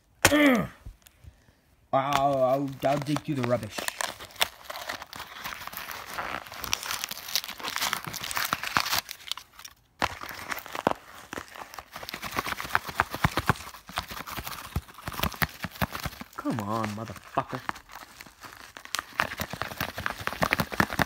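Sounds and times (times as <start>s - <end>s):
paper and plastic wrap crinkling: 2.1s - 21.0s.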